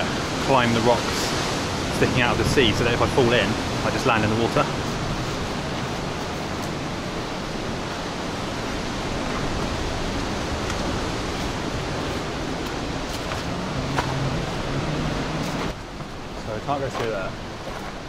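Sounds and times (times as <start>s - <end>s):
sea surf on rocky coast: 0.0s - 18.0s
wind: 0.0s - 18.0s
wind rumble on microphone: 0.0s - 18.0s.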